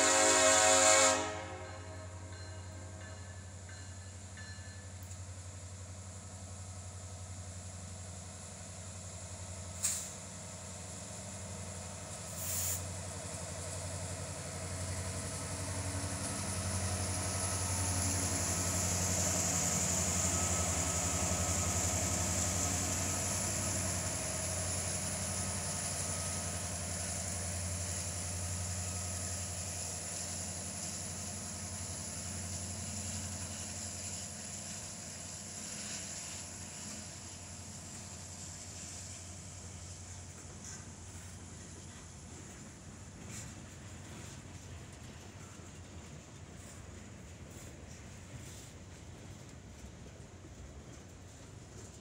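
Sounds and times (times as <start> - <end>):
freight locomotives rumbling past: 0.0 - 52.0.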